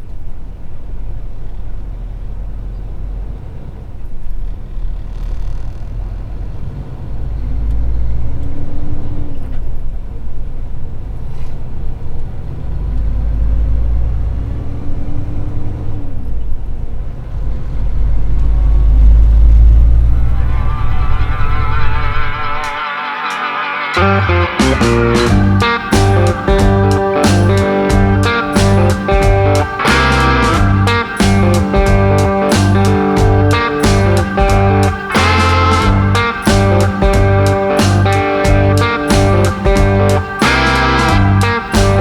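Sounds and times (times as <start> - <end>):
truck diesel engine accelerating: 0.5 - 22.0, 24.0 - 42.0.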